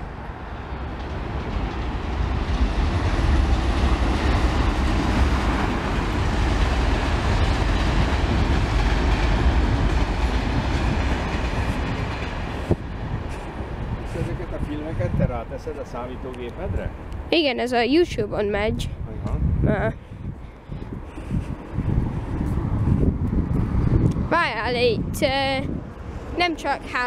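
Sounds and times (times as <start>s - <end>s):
passenger train passing: 0.0s - 27.0s.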